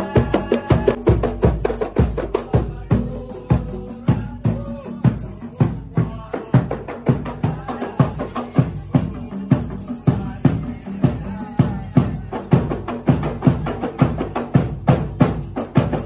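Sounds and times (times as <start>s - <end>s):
music with steady drum beat: 0.0s - 16.0s.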